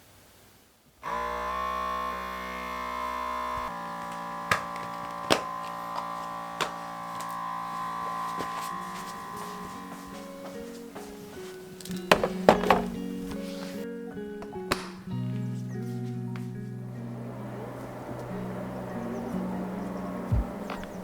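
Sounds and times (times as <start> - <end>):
sustained synthesizer chord: 1.0 - 21.0.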